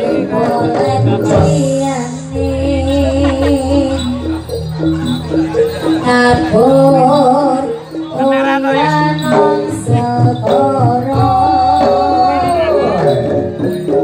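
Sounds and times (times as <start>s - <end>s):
folk percussion ensemble: 0.0s - 14.0s
person singing long wavering notes: 0.0s - 14.0s.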